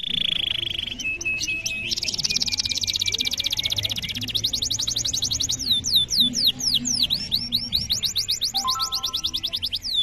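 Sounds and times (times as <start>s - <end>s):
canary singing: 0.6s - 10.0s.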